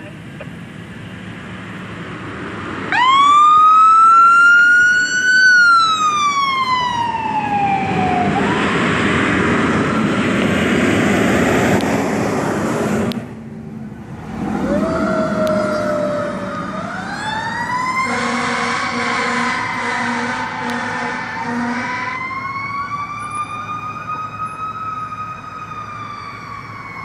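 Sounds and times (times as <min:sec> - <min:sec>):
truck engine and tyre noise: 0:00.0 - 0:27.0
fire truck siren wailing: 0:02.8 - 0:13.2, 0:14.0 - 0:27.0.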